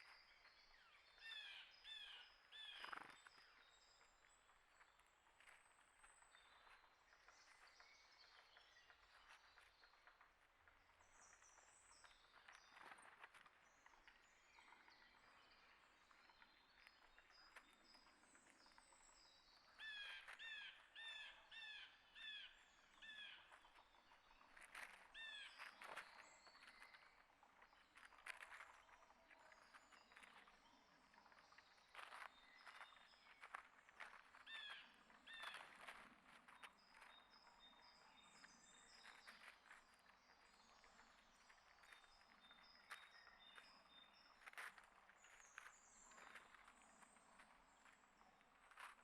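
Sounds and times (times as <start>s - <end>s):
faint songbird chirps: 0.0s - 49.0s.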